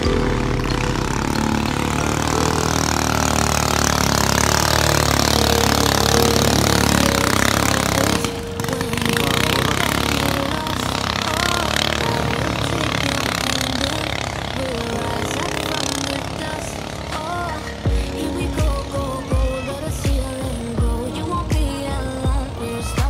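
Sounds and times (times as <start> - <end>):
boat engine running hard: 0.0 - 23.0.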